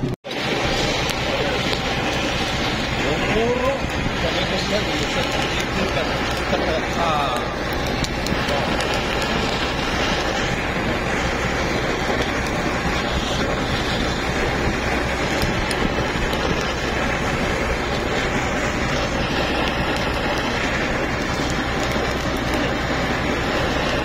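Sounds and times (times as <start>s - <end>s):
gas torch flame hissing: 0.0s - 24.0s
low machinery hum: 0.0s - 24.0s.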